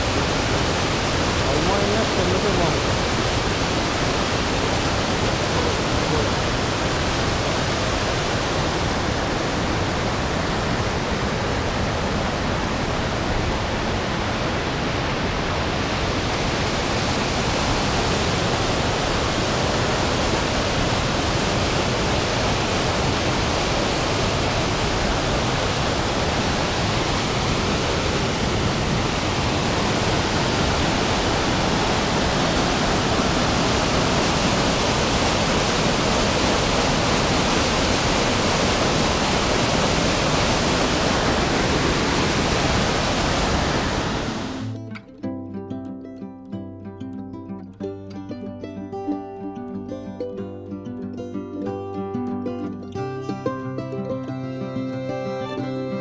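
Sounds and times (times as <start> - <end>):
stream rushing over rocks: 0.0 - 44.9, 53.0 - 56.0.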